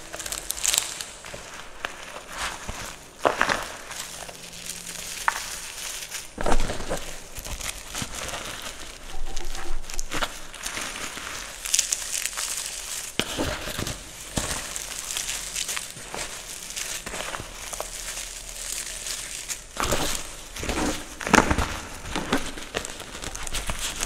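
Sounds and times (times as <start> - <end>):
chalk crumbling by hand: 0.0 - 24.0
sharp crunches: 0.0 - 24.0.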